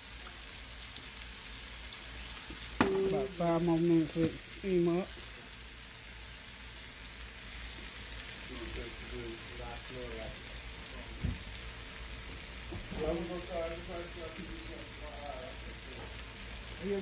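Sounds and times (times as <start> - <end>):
vegetables sizzling in a skillet: 0.0 - 17.0.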